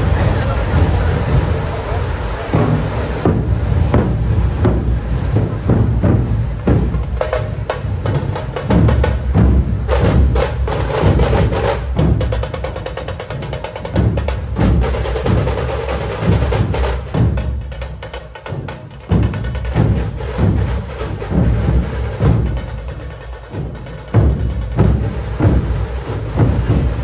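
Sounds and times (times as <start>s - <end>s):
drum-led procession music: 0.0s - 27.0s.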